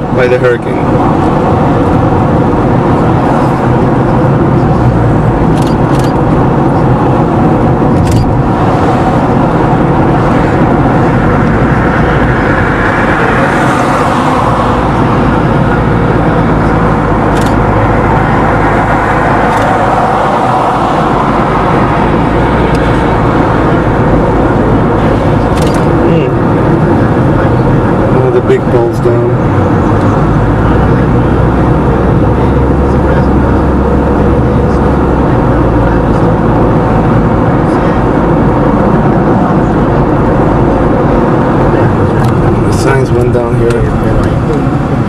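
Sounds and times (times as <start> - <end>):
car road and engine noise: 0.0 - 45.0.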